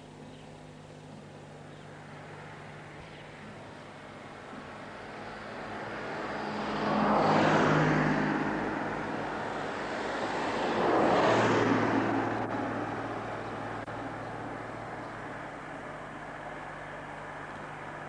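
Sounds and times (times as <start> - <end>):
cars passing on road: 0.0 - 18.0.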